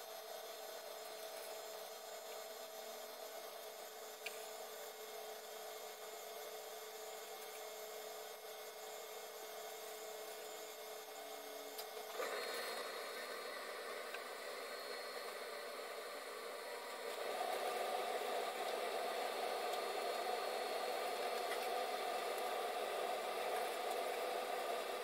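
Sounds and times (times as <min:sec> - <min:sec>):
faint room hum with tones: 0:00.0 - 0:25.0.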